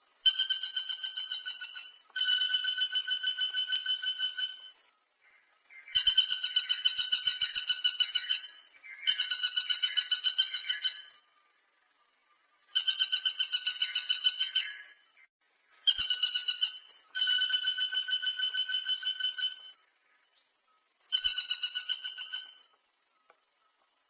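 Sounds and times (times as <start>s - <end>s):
woodpecker calling trill: 0.2s - 23.9s.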